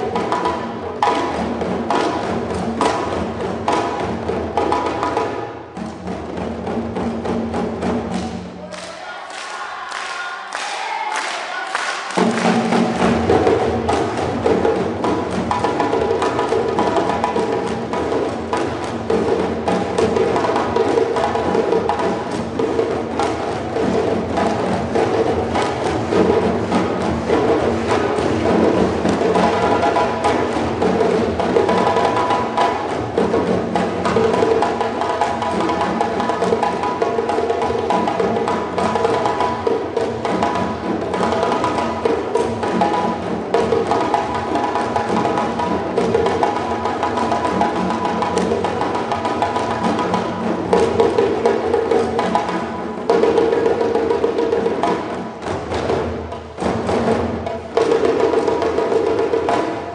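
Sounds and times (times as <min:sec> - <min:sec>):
djembe hand drums playing: 0:00.0 - 0:08.8, 0:12.0 - 0:59.9.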